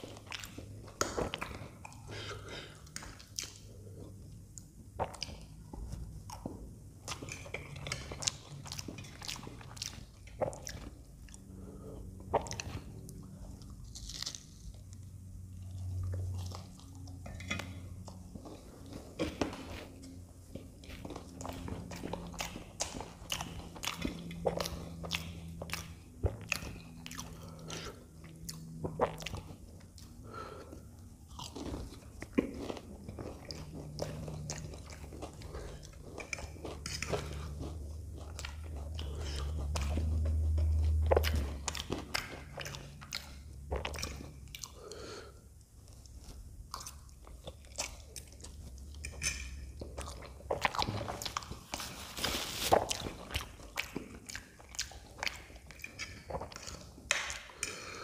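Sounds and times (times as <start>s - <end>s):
wet chewing and slurping: 0.0s - 58.0s.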